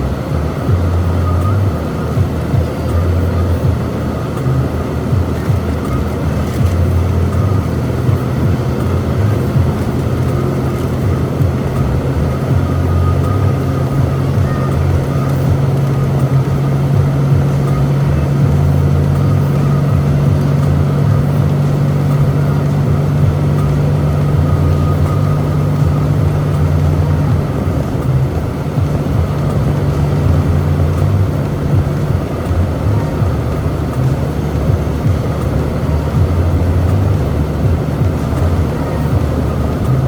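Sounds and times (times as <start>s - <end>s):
road noise: 0.0s - 40.0s
truck engine hum in cab: 0.0s - 40.0s.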